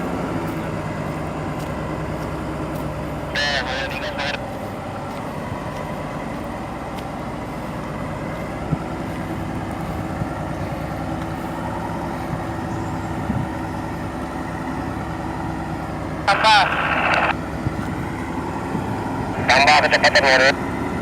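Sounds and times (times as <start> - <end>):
diesel truck engine under load: 0.0 - 21.0.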